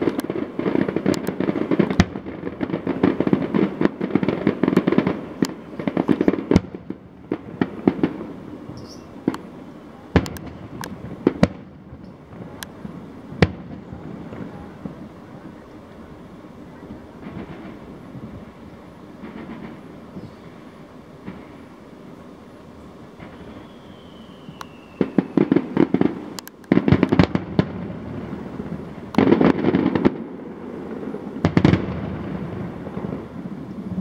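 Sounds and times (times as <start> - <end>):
faint firework crackles: 0.0 - 34.0.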